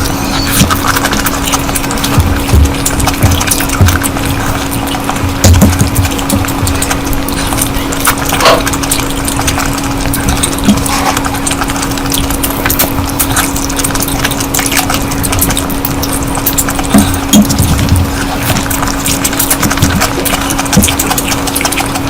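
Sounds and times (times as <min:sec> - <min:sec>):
steady low hum: 0:00.0 - 0:22.0
wet chewing and mouth clicks: 0:00.0 - 0:22.0.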